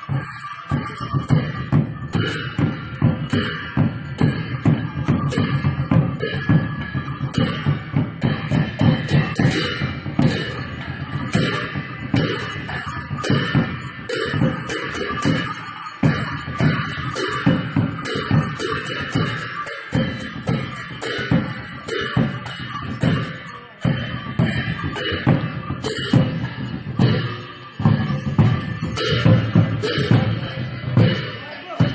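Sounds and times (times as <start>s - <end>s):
loud music with drum beat: 0.0s - 31.9s.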